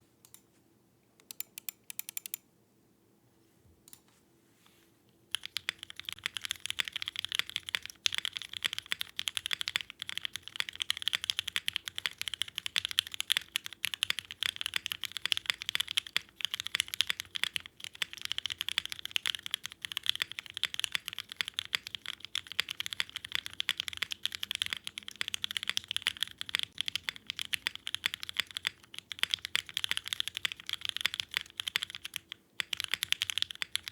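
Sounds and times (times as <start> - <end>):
typing on mechanical keyboard: 5.3 - 33.9.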